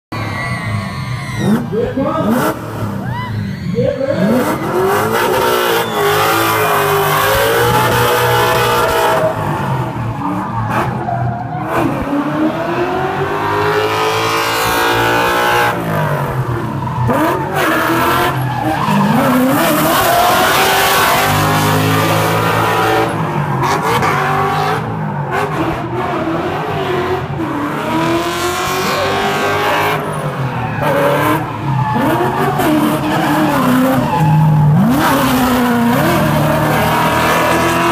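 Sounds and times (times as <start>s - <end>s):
tyres squealing and skidding: 0.1s - 37.9s
car engine revving hard: 1.4s - 3.0s, 4.2s - 37.9s.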